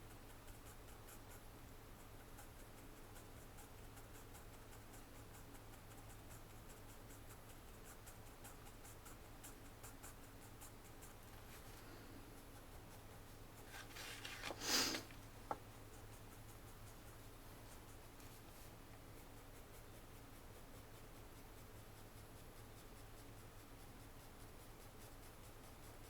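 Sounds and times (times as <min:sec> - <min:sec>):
pencil scratching on paper: 0:00.1 - 0:26.0.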